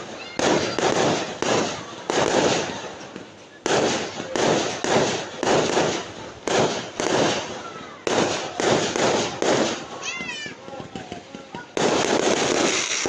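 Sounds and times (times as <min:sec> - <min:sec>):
fireworks banging: 0:00.0 - 0:13.0.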